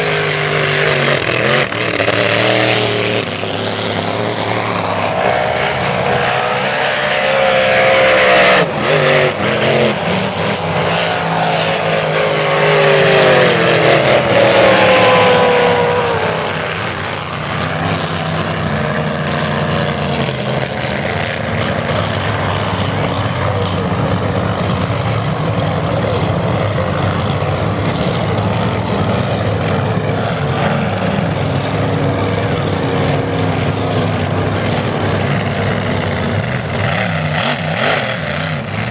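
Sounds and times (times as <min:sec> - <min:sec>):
race boat engines passing: 0:00.0 - 0:38.9.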